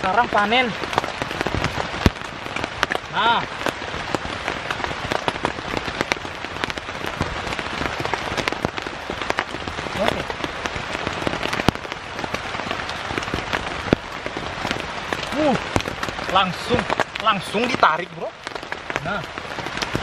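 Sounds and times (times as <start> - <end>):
heavy rain on a tent: 0.0 - 20.0.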